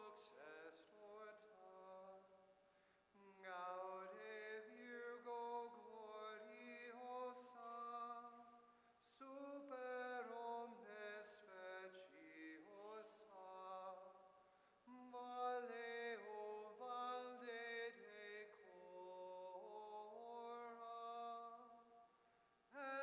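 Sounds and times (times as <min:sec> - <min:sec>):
voices singing a slow hymn: 0:00.0 - 0:02.3, 0:03.1 - 0:14.2, 0:14.8 - 0:22.0, 0:22.7 - 0:23.0.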